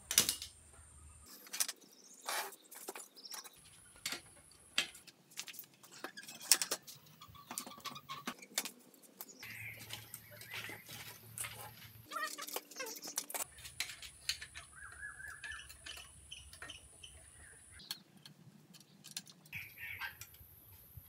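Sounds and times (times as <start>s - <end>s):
bike wheel and frame handled: 1.3s - 21.0s.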